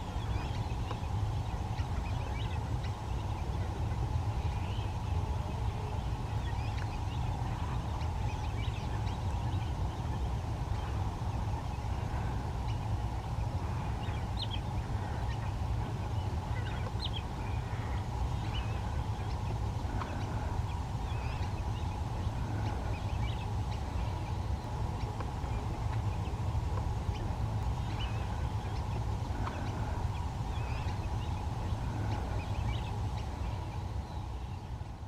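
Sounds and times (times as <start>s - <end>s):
mid hum: 0.0s - 35.0s.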